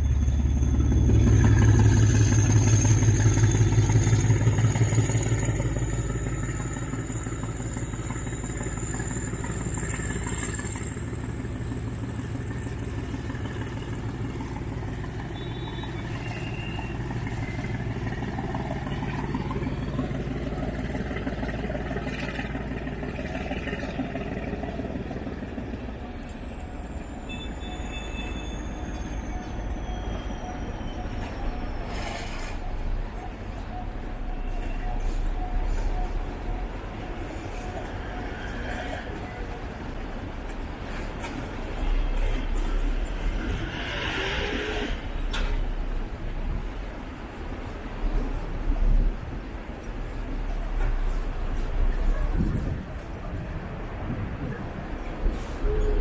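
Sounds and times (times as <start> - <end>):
freight train rumbling: 0.0 - 56.0
street traffic: 0.0 - 56.0.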